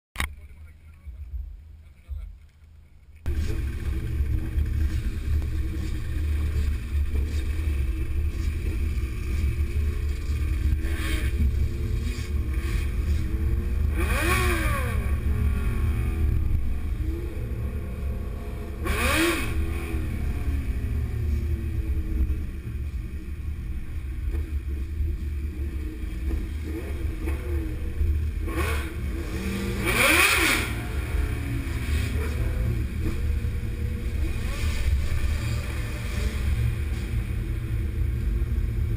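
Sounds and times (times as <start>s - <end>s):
steady low rumble: 0.2s - 38.9s
motorcycle engines revving: 3.2s - 38.9s.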